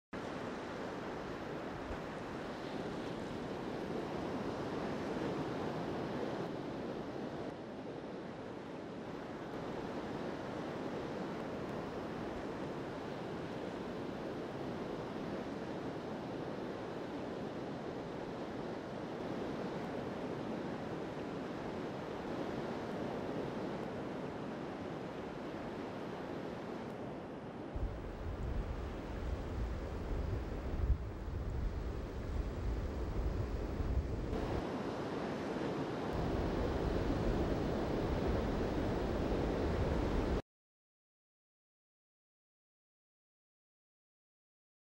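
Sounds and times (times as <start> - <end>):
waves breaking on shore: 0.2 - 40.4.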